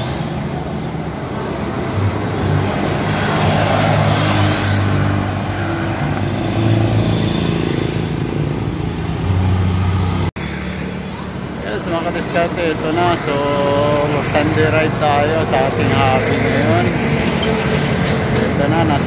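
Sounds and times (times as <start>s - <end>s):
vehicles passing on highway: 0.0s - 19.0s.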